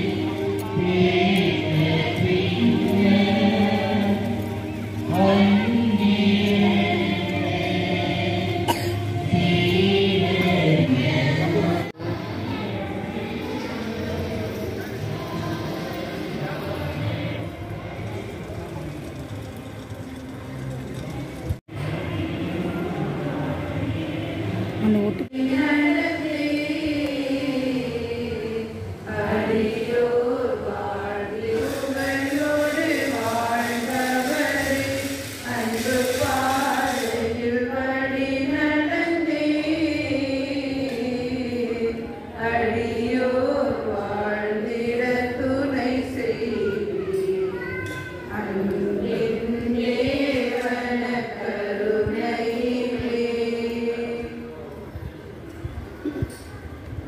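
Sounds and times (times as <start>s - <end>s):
voices singing a slow hymn: 0.0s - 18.4s, 21.6s - 56.5s.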